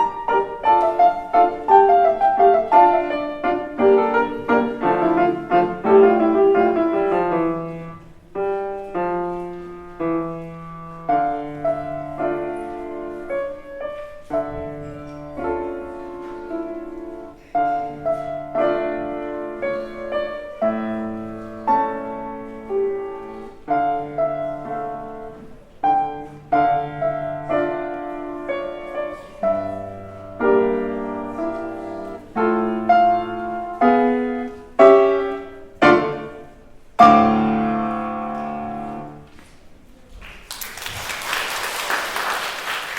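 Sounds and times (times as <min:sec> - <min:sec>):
piano playing chords and melody: 0:00.0 - 0:39.3.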